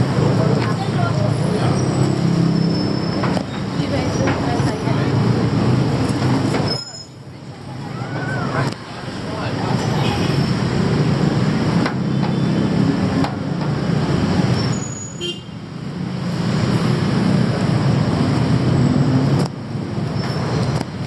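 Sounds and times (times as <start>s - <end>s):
heavy traffic rumbling: 0.0s - 21.0s.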